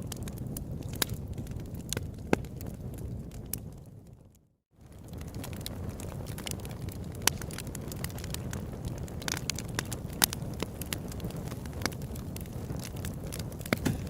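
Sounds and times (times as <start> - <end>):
campfire crackling and popping: 0.0 - 14.0
low rush of flame: 0.0 - 14.0.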